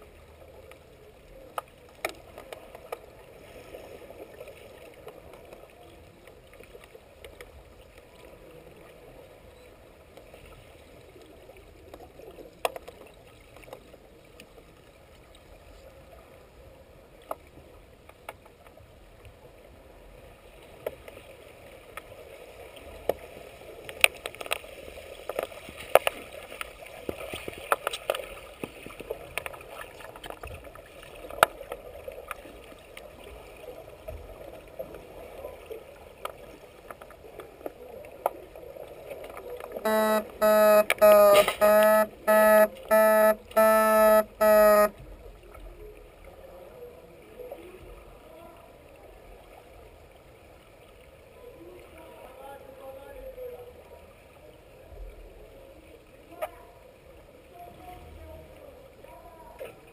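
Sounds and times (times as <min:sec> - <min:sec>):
muffled underwater water noise: 0:00.0 - 0:59.9.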